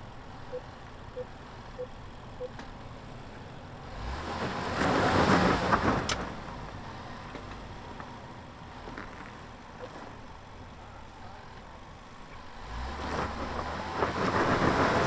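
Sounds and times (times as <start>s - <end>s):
engine and tyres on loose rock: 0.0s - 15.0s.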